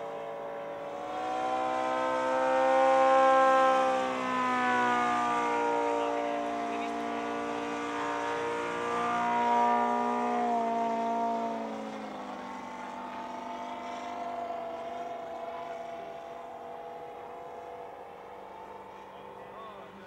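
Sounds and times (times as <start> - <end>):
model airplane engine droning: 0.0 - 20.0.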